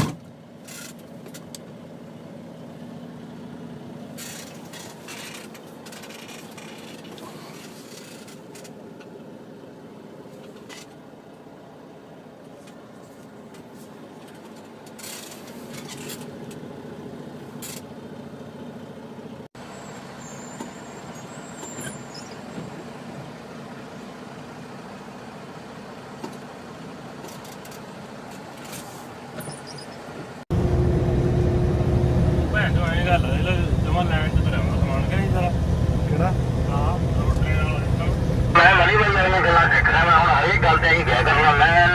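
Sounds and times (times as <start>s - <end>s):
heavy engine rumble: 0.0s - 41.9s
truck engine humming: 0.3s - 41.9s.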